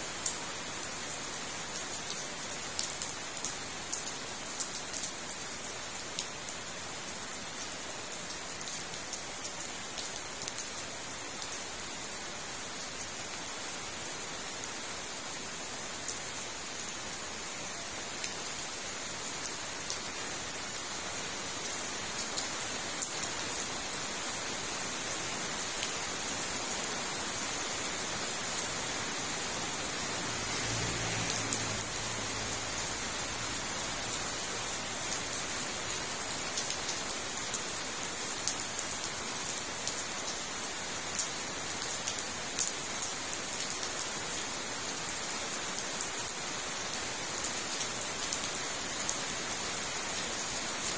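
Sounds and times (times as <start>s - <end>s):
rain falling on a pond: 0.0s - 50.9s.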